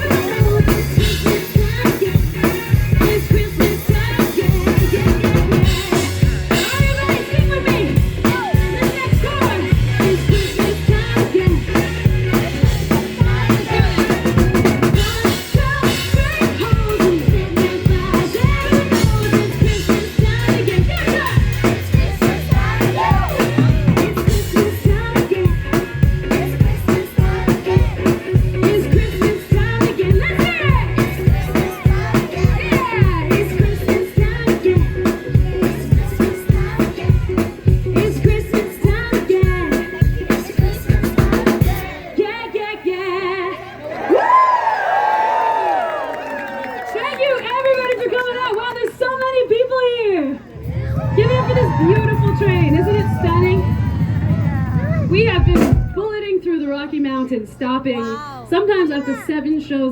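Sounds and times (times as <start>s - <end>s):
live band music: 0.0s - 42.2s, 50.4s - 56.6s.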